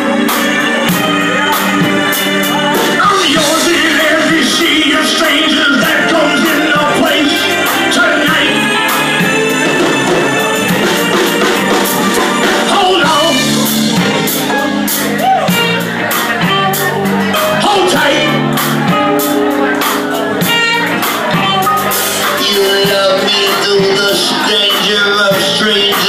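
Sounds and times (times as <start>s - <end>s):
drum kit steady beat: 0.0s - 26.0s
guitar: 0.0s - 26.0s
keyboard: 0.0s - 26.0s.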